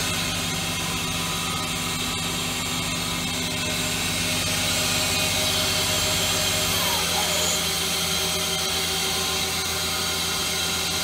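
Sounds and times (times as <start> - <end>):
lathe spindle hum: 0.0 - 11.0.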